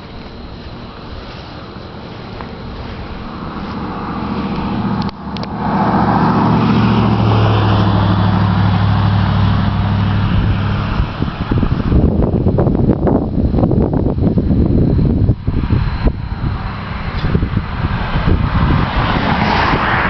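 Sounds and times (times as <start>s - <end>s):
tractor engine running: 0.0s - 19.1s
choppy buffeting noise: 0.0s - 20.0s.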